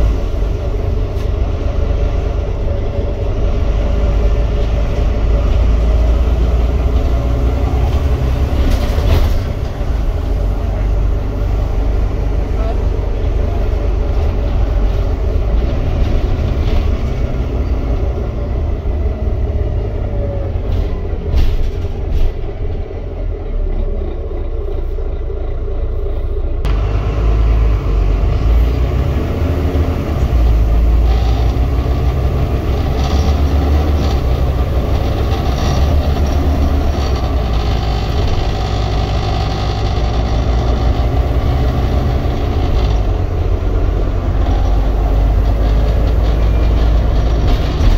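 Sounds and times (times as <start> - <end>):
bus diesel engine rumble: 0.0 - 47.9
road noise: 0.0 - 47.9.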